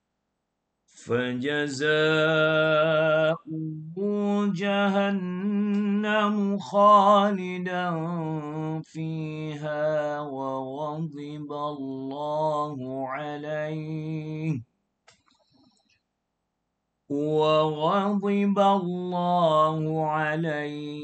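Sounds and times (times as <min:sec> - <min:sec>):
man chanting recitation: 0:01.0 - 0:14.6, 0:17.1 - 0:21.0.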